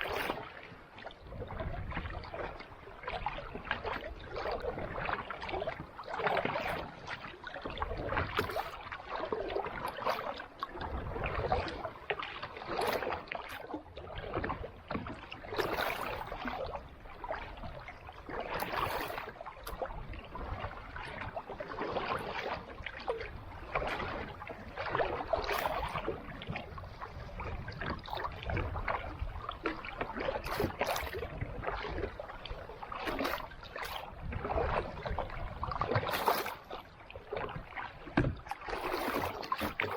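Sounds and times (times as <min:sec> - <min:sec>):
paddle strokes splashing water: 0:00.0 - 0:39.9.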